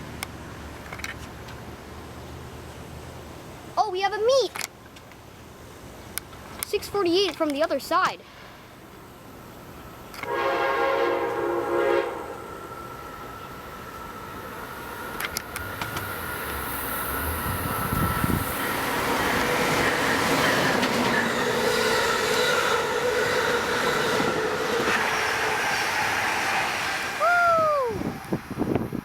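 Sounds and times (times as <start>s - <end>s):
train wheels roaring on rails: 4.5s - 29.0s.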